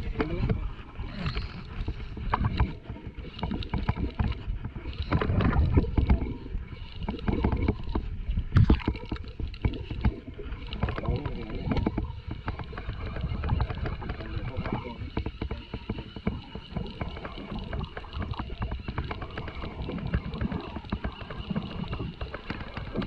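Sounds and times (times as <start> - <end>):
water slapping against boat hull: 0.0 - 23.0.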